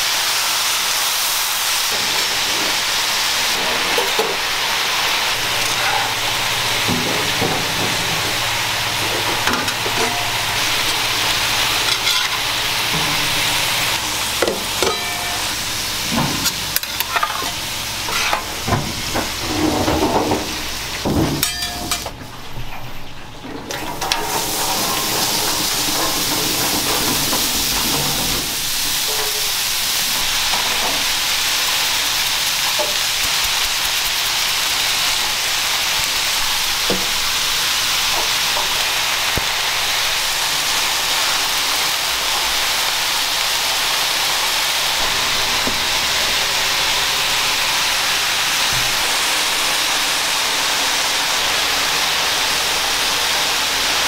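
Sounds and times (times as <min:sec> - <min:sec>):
onions sizzling on a griddle: 0:00.0 - 0:22.1, 0:24.0 - 0:54.0.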